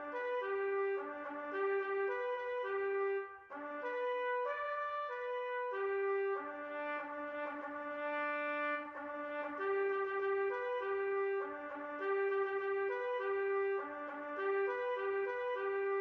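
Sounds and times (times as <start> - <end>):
solo trumpet bugle call: 0.0 - 16.0.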